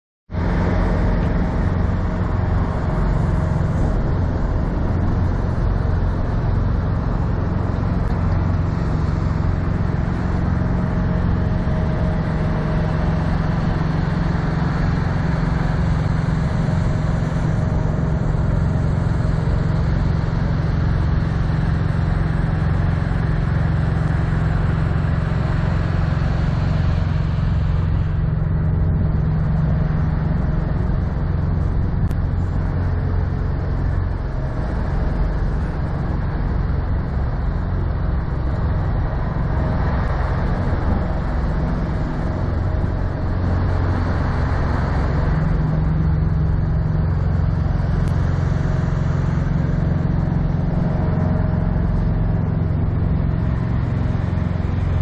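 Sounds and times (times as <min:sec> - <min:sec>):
diesel truck engine idling: 0:00.4 - 0:55.0.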